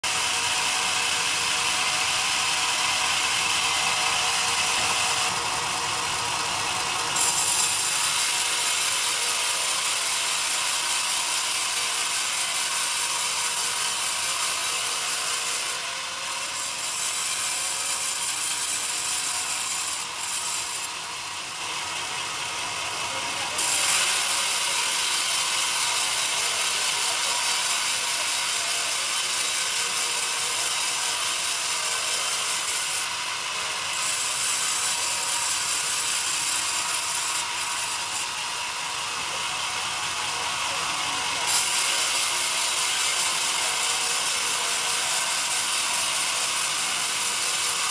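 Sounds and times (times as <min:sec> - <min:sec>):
band sawmill cutting log: 0:00.0 - 0:47.9.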